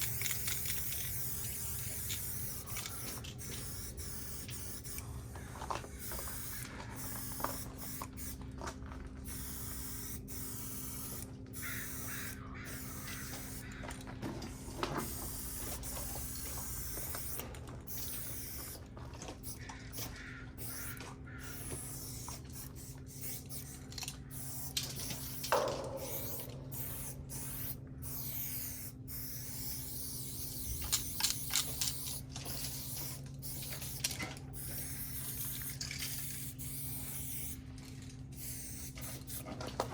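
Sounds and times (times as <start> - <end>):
spray paint cans spraying: 0.0 - 39.9
steady low hum: 0.0 - 39.9.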